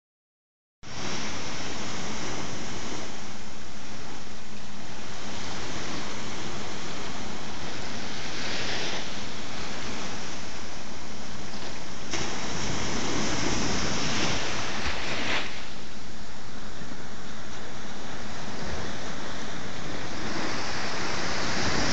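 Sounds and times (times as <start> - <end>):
surf washing against rocks: 0.9 - 21.9.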